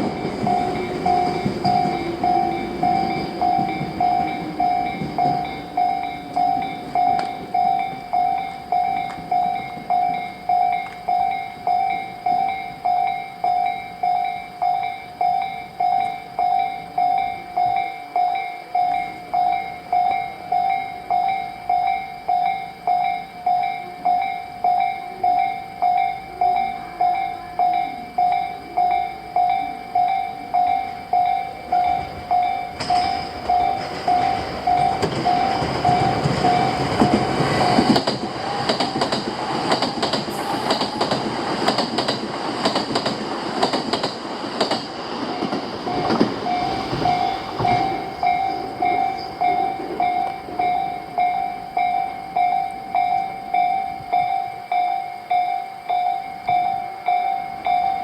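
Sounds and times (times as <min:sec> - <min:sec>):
level-crossing alarm ringing: 0:00.0 - 0:58.0
train motor passing: 0:00.0 - 0:58.0.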